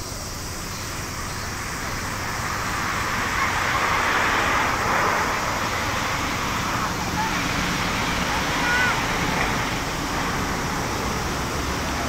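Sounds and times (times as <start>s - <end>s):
jet engines rushing roar: 0.0s - 12.0s.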